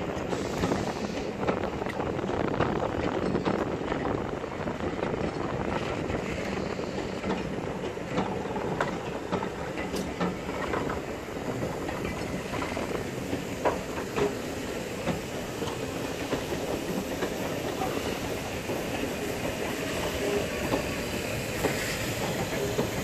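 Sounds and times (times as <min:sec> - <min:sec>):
train coaches rumbling past: 0:00.0 - 0:23.0
wheels clicking over rail joints: 0:00.0 - 0:23.0.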